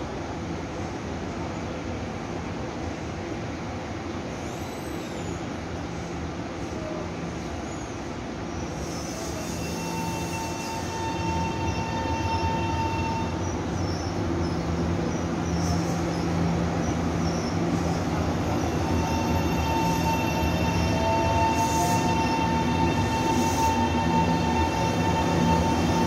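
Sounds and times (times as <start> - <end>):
train rumbling along platform: 0.0 - 26.0.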